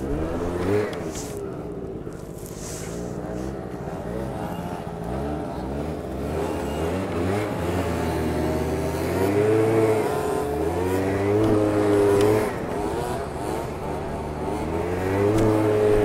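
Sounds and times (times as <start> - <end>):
scooter engines revving: 0.0 - 16.0.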